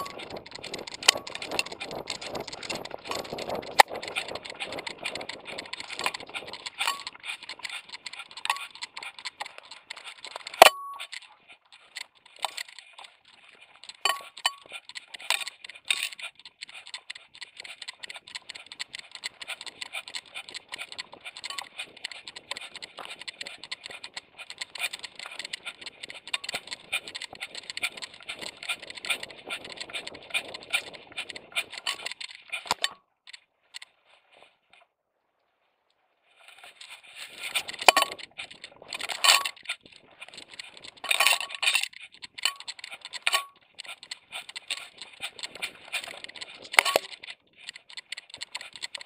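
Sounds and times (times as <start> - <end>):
rustling and clicking on camera: 0.0 - 35.0, 35.9 - 49.0.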